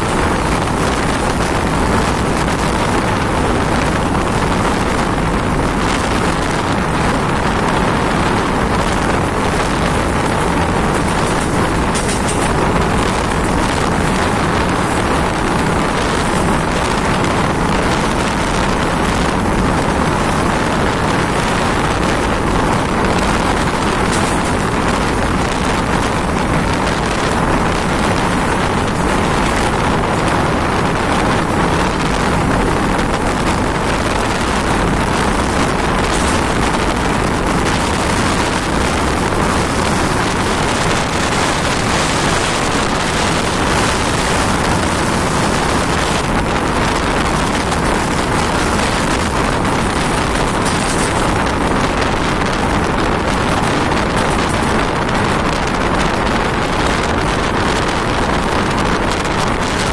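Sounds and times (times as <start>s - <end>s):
train rushing at speed: 0.0s - 59.9s
wind buffeting microphone: 0.0s - 59.9s.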